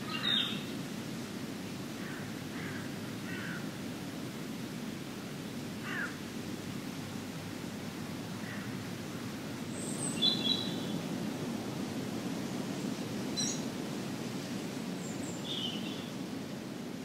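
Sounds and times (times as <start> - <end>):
low rushing background noise: 0.0 - 17.0.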